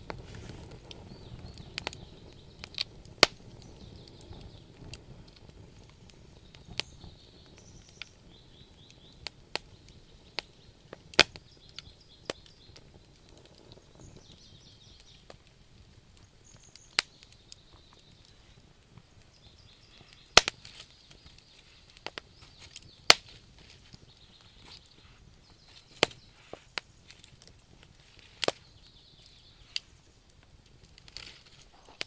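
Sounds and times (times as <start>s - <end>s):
faint hiss: 0.0s - 32.0s
wood fire crackling: 0.0s - 32.0s.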